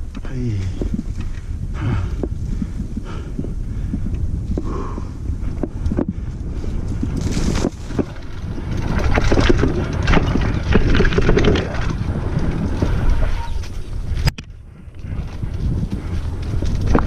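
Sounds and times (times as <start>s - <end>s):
bike rattling and knocking: 0.0s - 17.0s
wind buffeting microphone: 0.0s - 17.0s.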